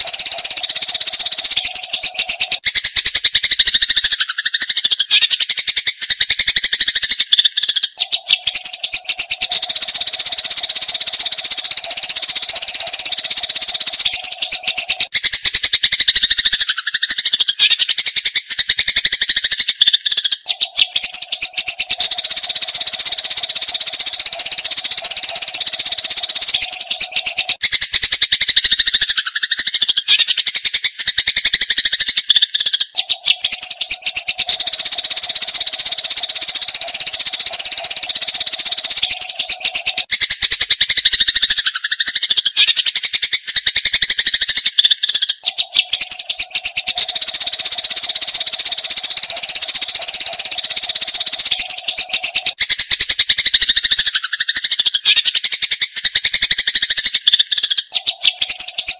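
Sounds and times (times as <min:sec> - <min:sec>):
sparrows chirping: 0:00.0 - 0:58.9.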